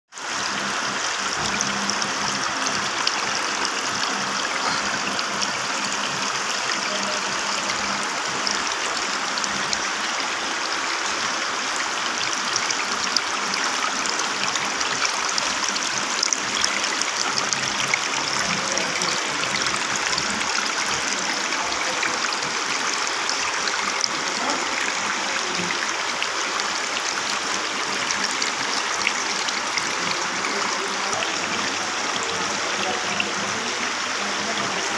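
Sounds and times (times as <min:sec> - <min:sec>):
water trickling down fountain: 0:00.1 - 0:34.9.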